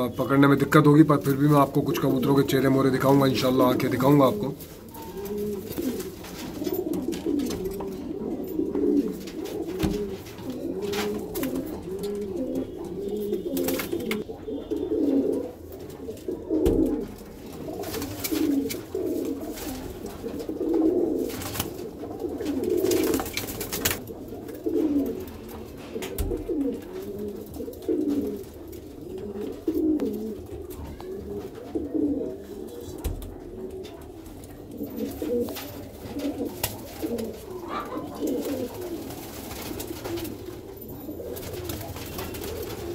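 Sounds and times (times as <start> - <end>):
pigeons cooing: 0.0 - 42.9.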